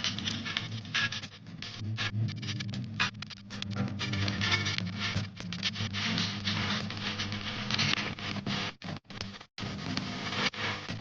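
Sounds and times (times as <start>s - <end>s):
background music low tones: 0.0s - 8.9s.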